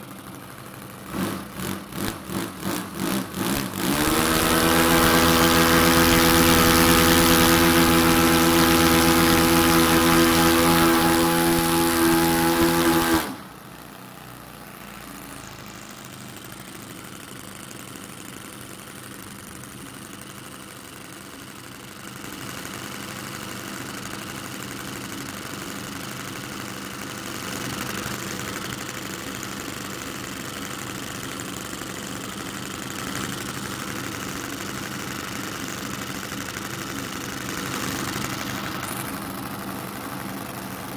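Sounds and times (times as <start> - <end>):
model aircraft engines running: 0.0 - 40.9.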